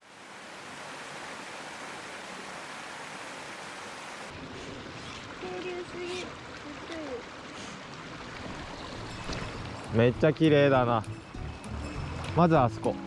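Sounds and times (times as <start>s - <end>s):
stream rushing water: 0.0s - 13.0s.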